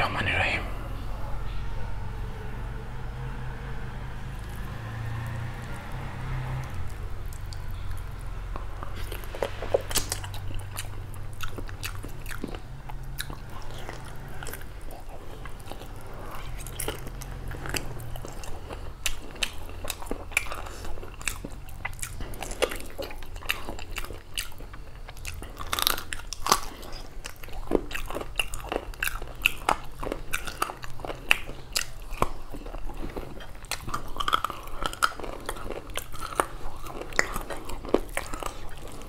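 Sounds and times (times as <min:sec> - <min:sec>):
steady low hum: 0:00.0 - 0:39.0
chewing and biting food: 0:04.2 - 0:39.0.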